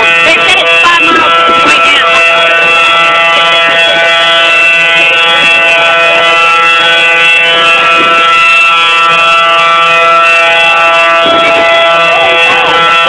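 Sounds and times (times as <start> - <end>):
steady warning siren tone: 0.0 - 13.0.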